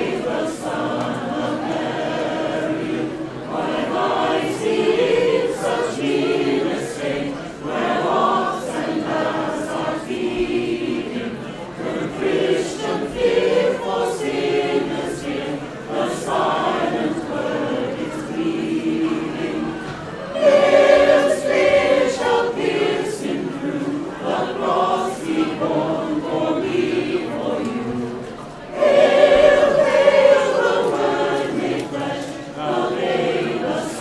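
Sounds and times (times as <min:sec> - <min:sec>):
mixed choir singing a carol: 0:00.0 - 0:34.0.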